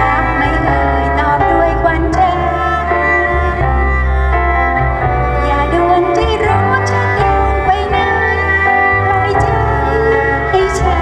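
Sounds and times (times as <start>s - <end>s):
double bass: 0.0s - 11.0s
keyboard: 0.0s - 11.0s
violin melody: 0.0s - 11.0s.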